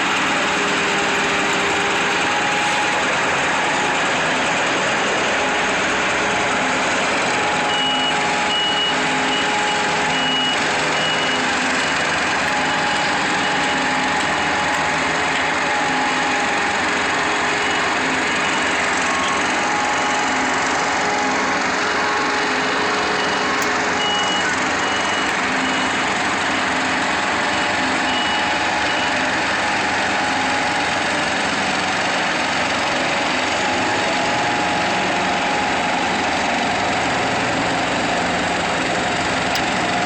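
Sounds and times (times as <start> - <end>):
reversing alarm beeping: 0.0 - 32.0, 32.7 - 37.7
diesel engines of paving machinery: 0.0 - 40.0.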